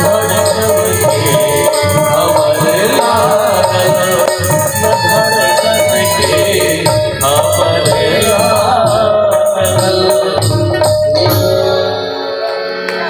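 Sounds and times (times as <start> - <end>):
jingling tambourine: 0.0 - 11.9
hand drum: 0.0 - 12.0
man singing: 0.0 - 12.8
harmonium: 0.0 - 13.0.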